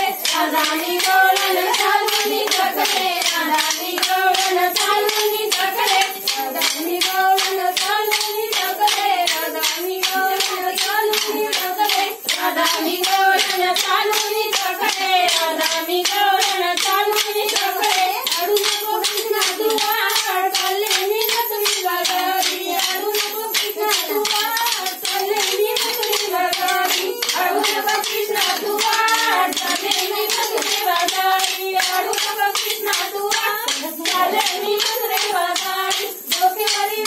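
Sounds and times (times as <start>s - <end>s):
women singing folk melody: 0.0s - 37.0s
wooden sticks clicking together: 0.2s - 36.8s.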